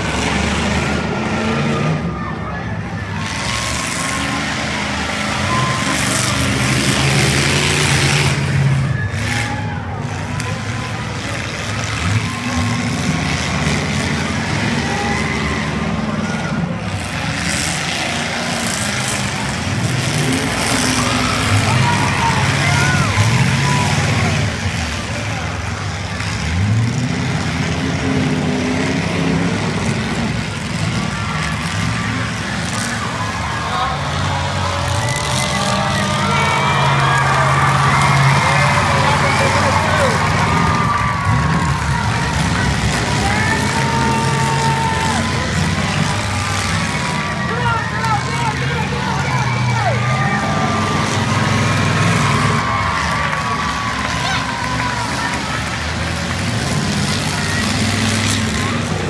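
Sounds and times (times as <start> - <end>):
vehicle engine running: 0.0 - 59.0
wide noise: 0.0 - 59.0.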